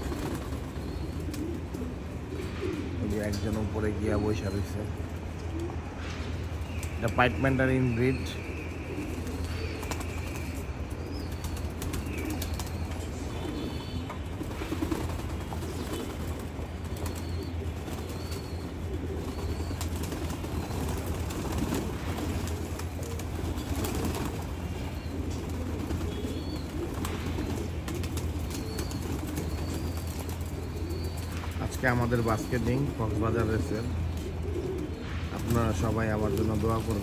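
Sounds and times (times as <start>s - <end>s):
wings flapping: 0.0s - 3.8s, 8.8s - 37.0s
pigeons cooing: 0.0s - 37.0s.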